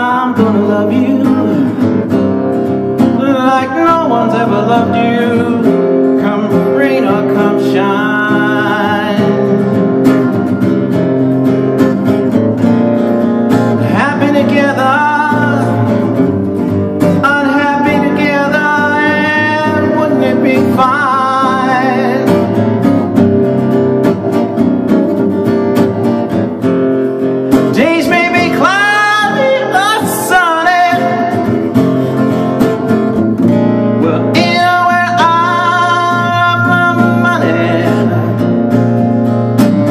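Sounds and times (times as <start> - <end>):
man singing blues: 0.0 - 25.5, 27.2 - 39.9
strummed acoustic guitar: 0.0 - 39.9.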